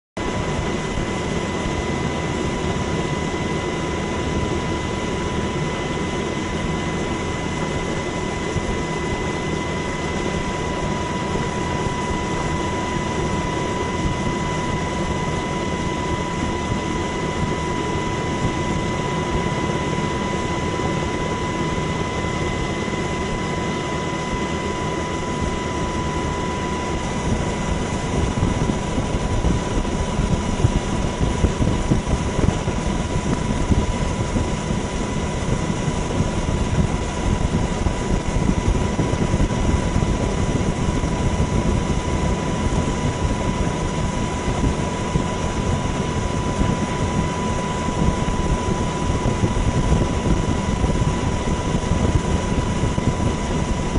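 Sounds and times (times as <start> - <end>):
aircraft engine whine: 0.2 - 53.9.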